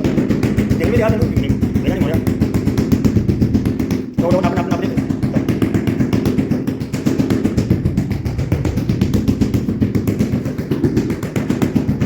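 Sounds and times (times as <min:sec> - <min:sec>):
machine motor pulsing: 0:00.0 - 0:12.0.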